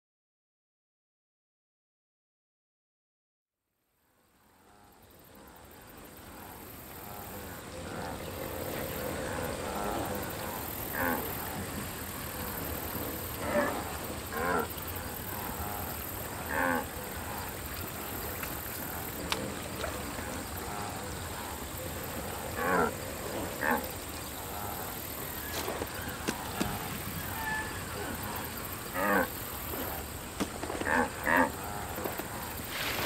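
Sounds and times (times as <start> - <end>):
steady background hiss: 3.8 - 33.0.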